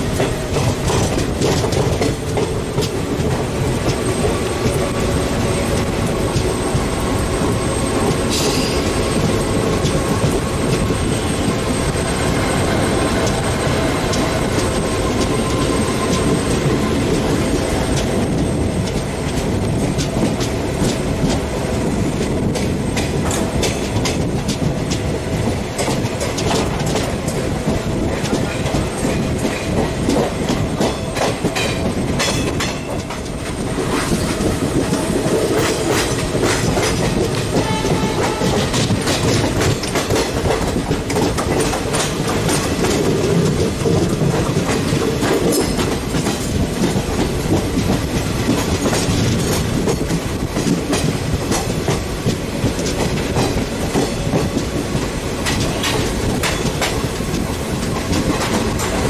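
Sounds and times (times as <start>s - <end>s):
train wheels rumbling on rail: 0.0s - 59.0s
wheels clicking over rail joints: 0.0s - 59.0s.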